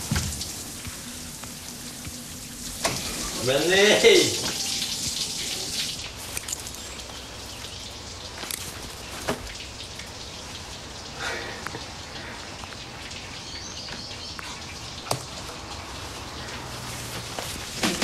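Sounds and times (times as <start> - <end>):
falling water: 0.0 - 18.0
rain patter: 0.0 - 18.0.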